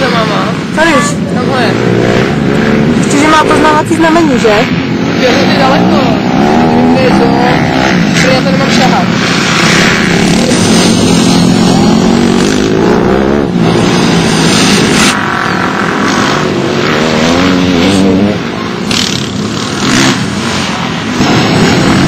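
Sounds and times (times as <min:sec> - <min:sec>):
pit bike engines revving: 0:00.0 - 0:22.0.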